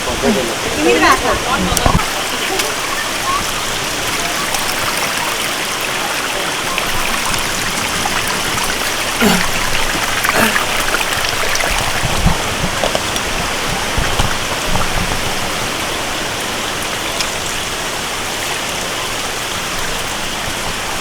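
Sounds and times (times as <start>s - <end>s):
stream and waterfall rushing: 0.0s - 21.0s.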